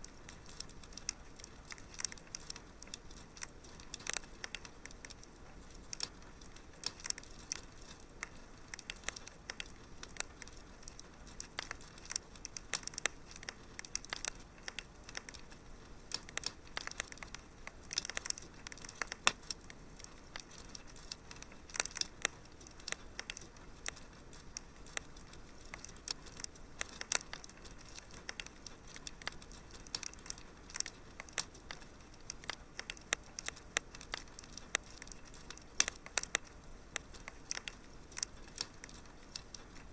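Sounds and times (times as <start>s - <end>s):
soft steady hiss: 0.0s - 39.9s
wood fire crackling and popping: 0.0s - 39.9s.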